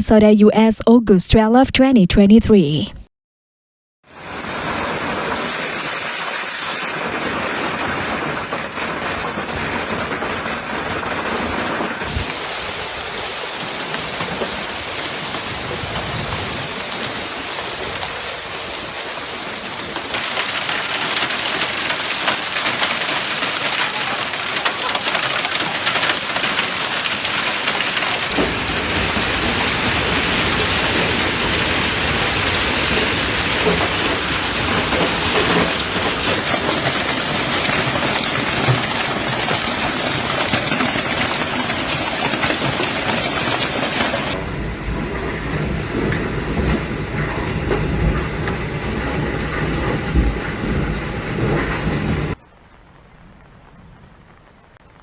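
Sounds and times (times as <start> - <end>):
hail and heavy rain pelting: 4.1 - 52.4.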